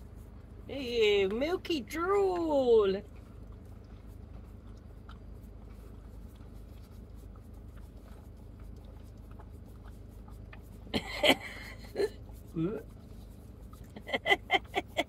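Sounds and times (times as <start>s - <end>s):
steady low hum: 0.0s - 15.0s
dog licking wet clicks: 2.3s - 14.8s.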